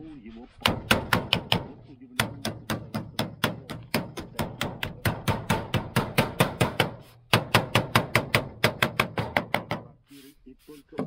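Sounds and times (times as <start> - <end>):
hammer tapping steel sheet: 0.6 - 9.9.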